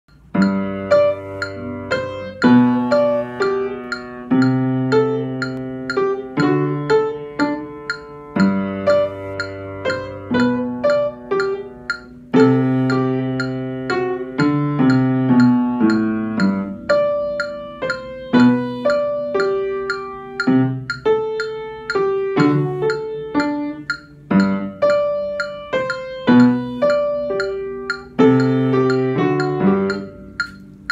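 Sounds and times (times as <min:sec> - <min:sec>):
piano melody and chords: 0:00.1 - 0:30.9.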